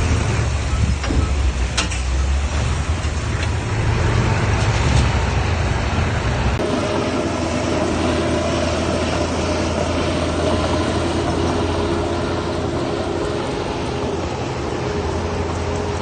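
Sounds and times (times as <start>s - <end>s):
diesel engine droning under load: 0.0s - 16.0s.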